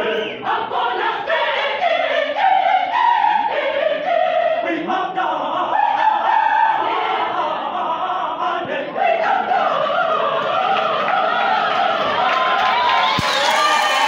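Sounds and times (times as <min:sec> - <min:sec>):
mixed choir singing: 0:00.0 - 0:14.0.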